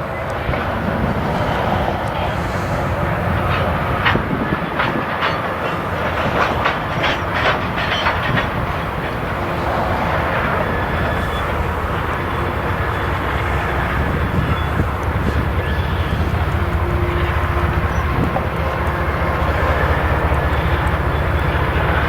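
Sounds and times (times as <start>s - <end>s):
train rumbling past: 0.0s - 22.0s
wheels clicking over rail joints: 0.0s - 22.0s.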